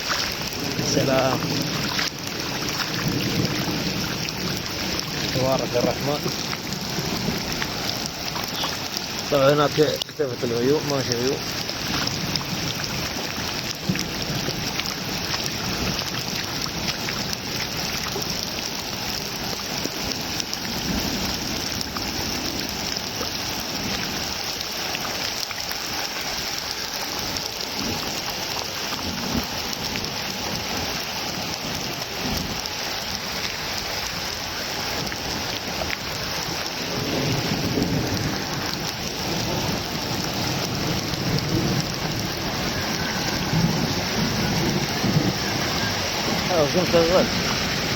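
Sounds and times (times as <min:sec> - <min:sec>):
thunder rumbling: 0:00.0 - 0:24.4, 0:29.0 - 0:47.9
steady rain falling: 0:00.0 - 0:47.9.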